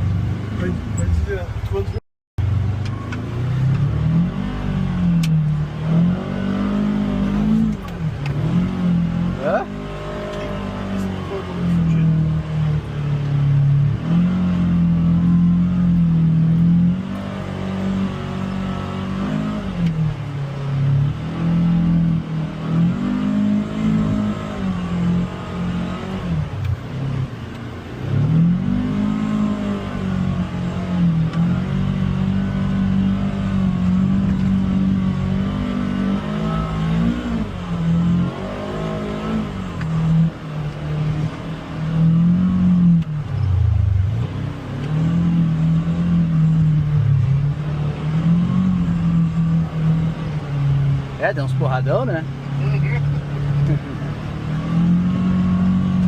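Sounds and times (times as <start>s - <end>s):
engine revving under load: 0.0s - 56.0s.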